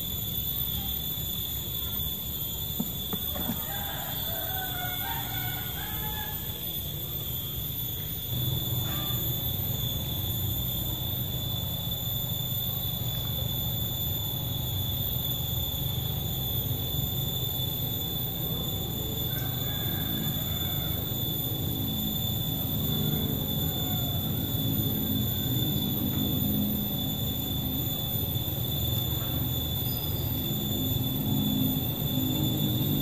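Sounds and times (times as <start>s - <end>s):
high-pitched whine: 0.0s - 33.0s.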